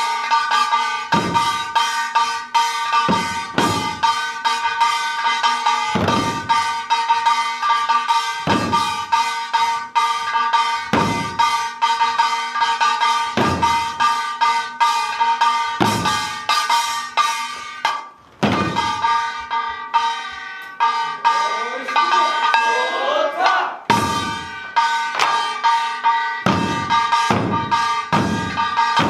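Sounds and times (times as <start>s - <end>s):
barrel drums beaten fast: 0.0s - 20.1s, 23.9s - 29.0s.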